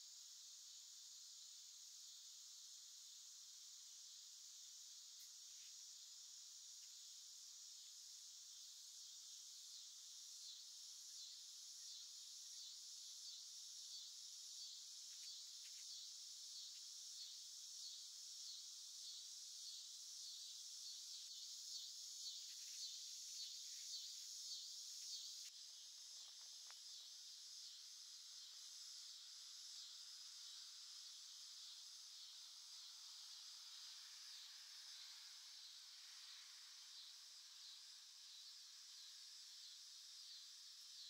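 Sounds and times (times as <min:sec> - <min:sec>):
crickets chirping: 0:00.0 - 0:41.0.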